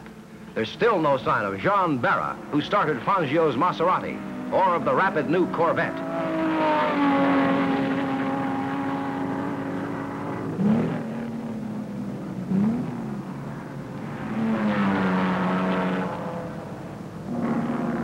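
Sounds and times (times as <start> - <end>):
racing car engines at full throttle: 0.0 - 18.0.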